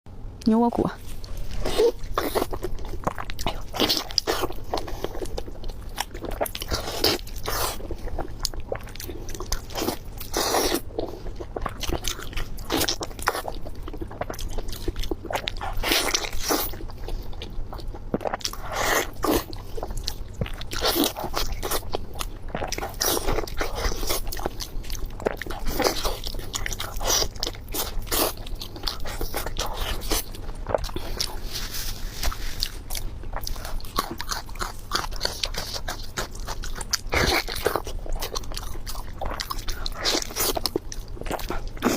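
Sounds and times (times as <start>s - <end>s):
crunchy chewing: 1.0s - 41.9s.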